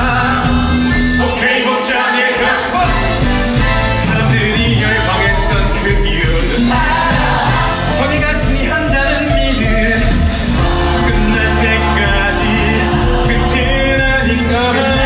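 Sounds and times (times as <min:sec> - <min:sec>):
cast singing: 0:00.0 - 0:15.0
loud instrumental accompaniment: 0:00.0 - 0:15.0.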